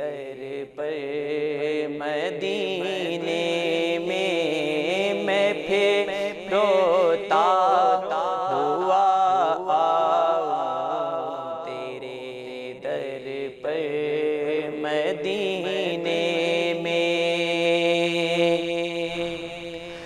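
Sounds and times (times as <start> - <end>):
man chanting a melismatic melody: 0.1 - 20.0.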